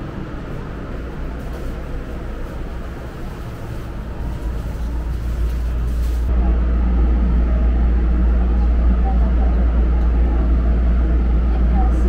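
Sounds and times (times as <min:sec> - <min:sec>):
monorail cabin rumble: 0:00.0 - 0:12.0.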